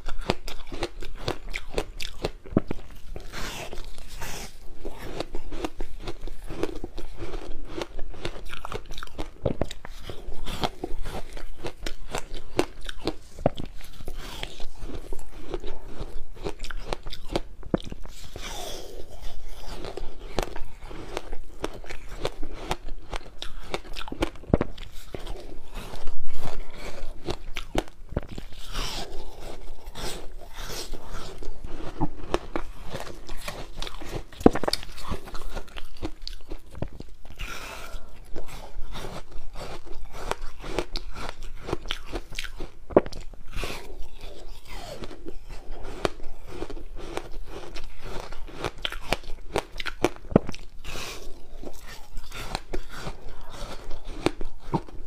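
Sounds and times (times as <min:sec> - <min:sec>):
ice being bitten and chewed: 0:00.0 - 0:55.0.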